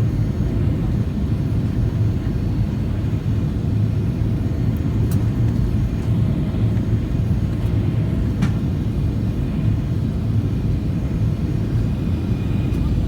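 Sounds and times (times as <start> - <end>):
airliner engine rumble: 0.0 - 13.0.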